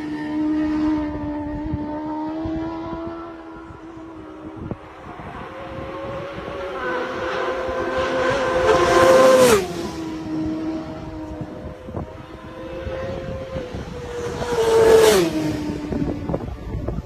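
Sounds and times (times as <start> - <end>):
racing motorcycle passing by: 0.0 - 17.0.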